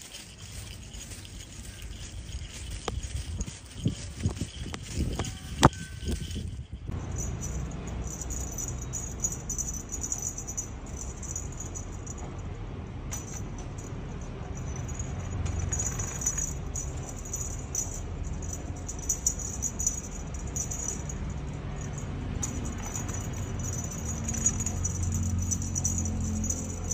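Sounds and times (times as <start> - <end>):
small bell jingling: 0.0 - 12.3, 13.1 - 26.9.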